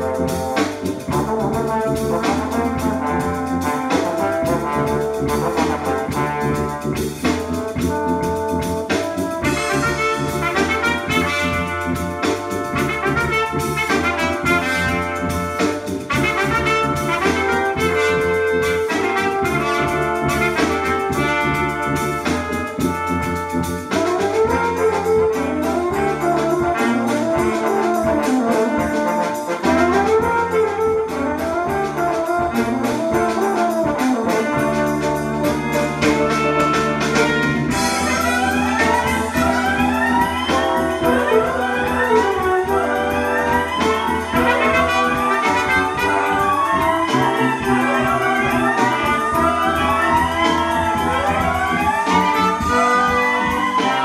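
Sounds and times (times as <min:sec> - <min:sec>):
jazz music over loudspeakers: 0:00.0 - 0:54.0.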